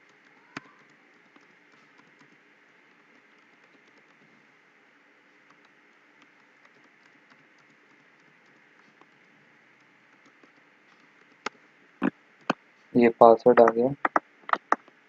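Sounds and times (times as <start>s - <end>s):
keyboard typing: 0.0s - 4.3s, 5.4s - 12.6s, 13.5s - 15.0s
low hiss: 1.6s - 15.0s.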